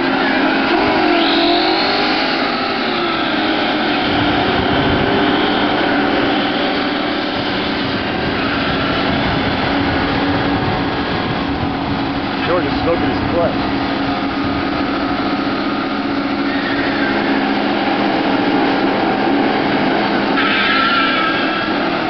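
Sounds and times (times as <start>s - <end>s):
car engines at high revs: 0.0s - 22.0s.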